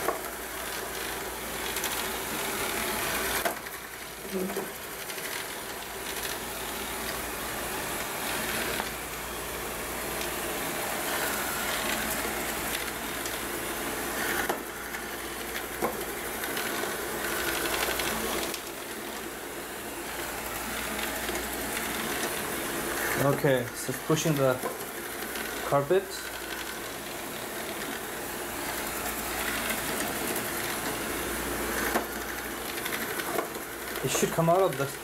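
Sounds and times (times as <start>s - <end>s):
robot vacuum whirring: 0.0s - 35.0s.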